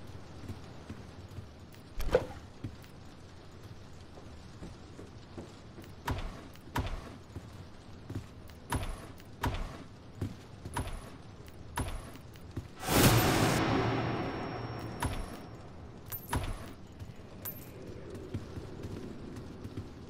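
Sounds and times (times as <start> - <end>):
footsteps walking: 0.0 - 13.2, 14.7 - 20.0.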